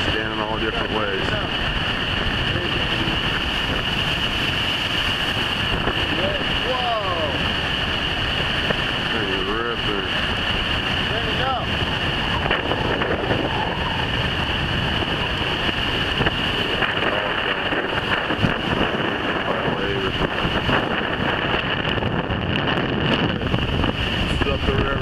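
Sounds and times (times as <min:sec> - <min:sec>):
river water breaking at jetty: 0:00.0 - 0:25.0
storm surf rushing: 0:00.0 - 0:25.0
wind buffeting microphone: 0:00.0 - 0:25.0.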